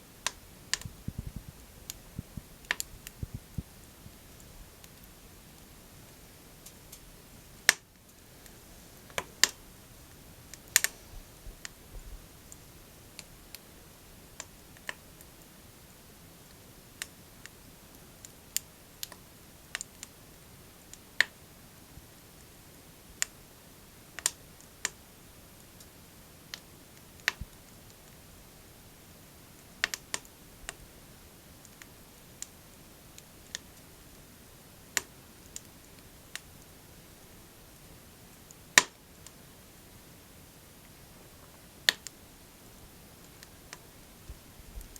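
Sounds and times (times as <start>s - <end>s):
logs crackling and popping: 0.1s - 21.4s, 24.1s - 29.0s, 29.6s - 39.9s, 40.5s - 44.9s.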